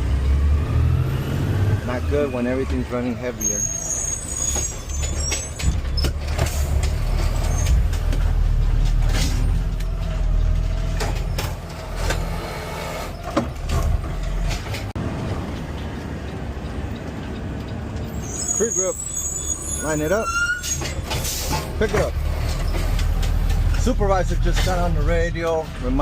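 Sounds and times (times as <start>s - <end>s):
garbage truck engine rumbling: 0.0s - 26.0s.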